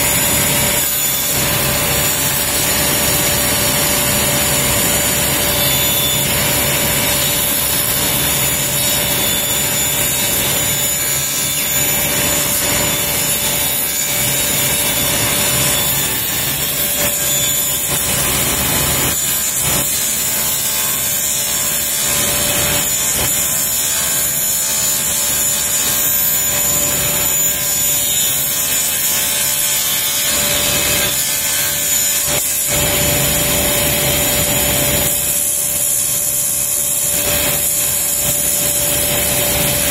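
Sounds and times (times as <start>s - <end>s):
saw blade cutting wood: 0.0s - 39.9s
table saw hum: 0.0s - 39.9s.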